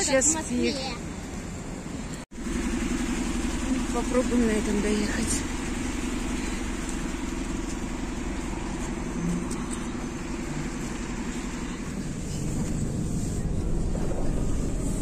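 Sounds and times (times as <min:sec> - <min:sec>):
bus engine rumbling: 0:00.0 - 0:15.0
street traffic: 0:00.0 - 0:15.0.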